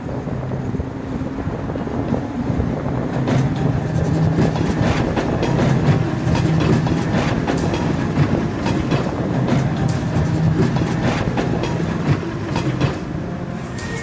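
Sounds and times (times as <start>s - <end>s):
streetcar wheels clacking: 0.0s - 14.0s.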